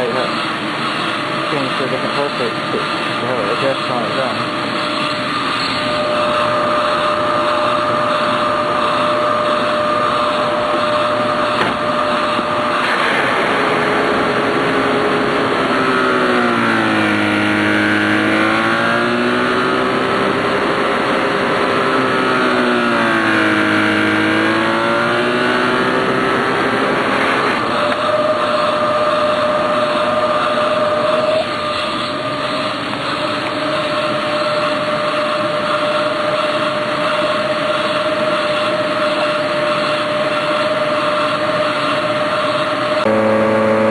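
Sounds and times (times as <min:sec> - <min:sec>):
upright vacuum cleaner running: 0:00.0 - 0:43.9.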